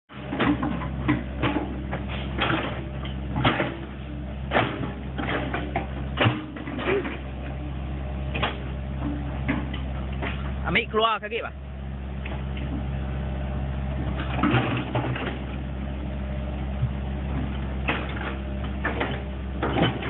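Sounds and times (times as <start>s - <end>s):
excavator diesel engine running: 0.1s - 20.0s.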